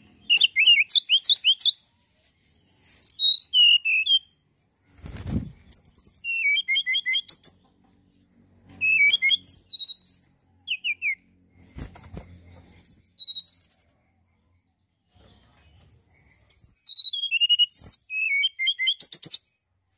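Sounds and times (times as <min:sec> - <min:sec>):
bird chirping: 0:00.0 - 0:19.7.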